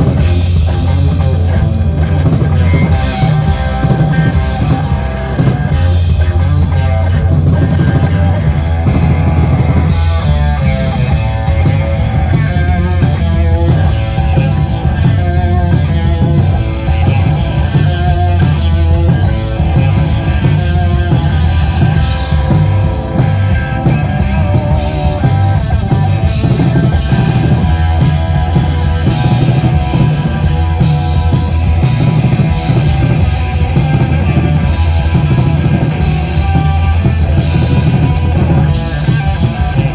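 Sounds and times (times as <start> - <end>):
live heavy rock band: 0.0 - 39.9.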